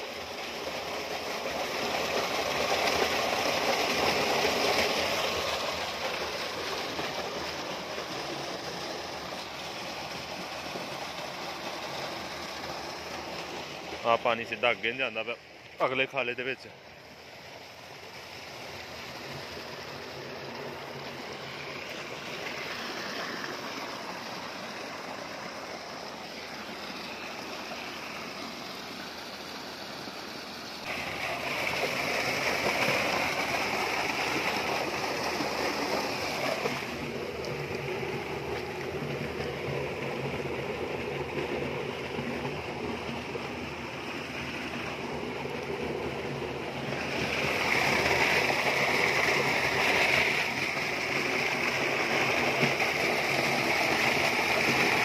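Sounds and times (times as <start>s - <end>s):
water gushing into a tank: 0.0s - 55.0s
water rushing along a channel: 0.0s - 55.0s.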